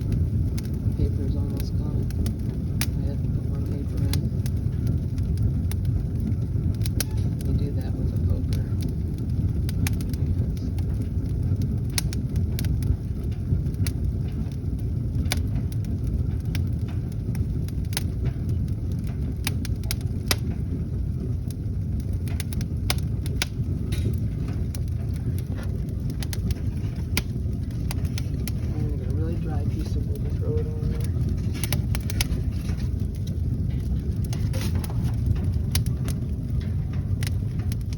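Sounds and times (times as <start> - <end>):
low fire rumble: 0.0 - 37.9
wood fire crackling and popping: 0.0 - 37.9.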